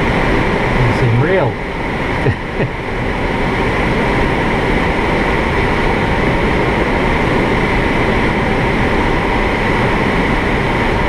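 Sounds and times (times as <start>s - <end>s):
air rushing past glider cockpit: 0.0s - 11.0s.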